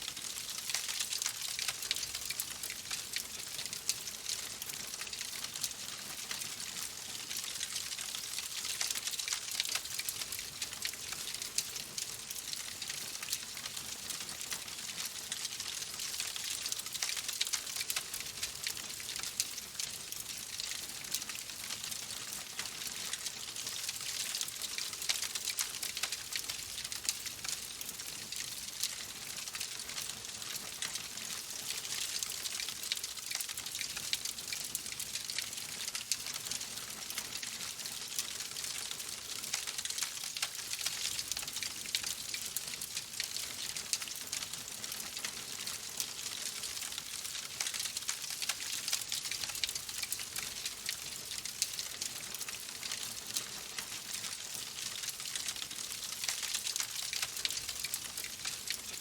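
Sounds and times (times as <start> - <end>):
fire crackling in a fireplace: 0.0 - 59.0.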